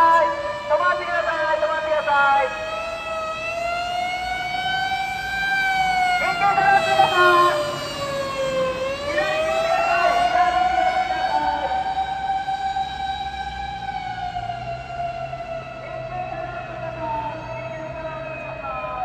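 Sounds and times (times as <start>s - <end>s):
electronic siren wailing: 0.0s - 19.0s.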